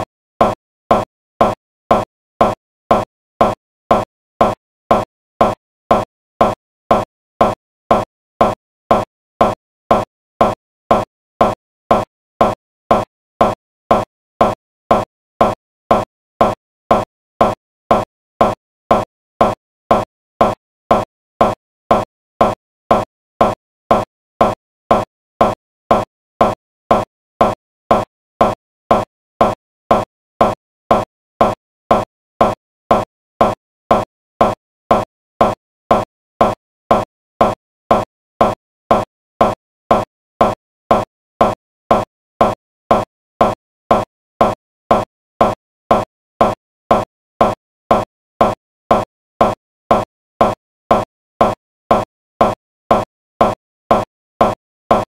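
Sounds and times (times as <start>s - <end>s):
short pitched blip repeating: 0.0s - 55.0s.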